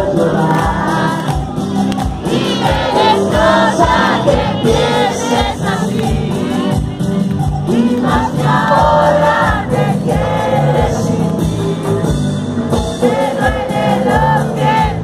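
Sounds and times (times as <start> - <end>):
live band playing loudly: 0.0 - 15.0
steady drum beat: 0.0 - 15.0.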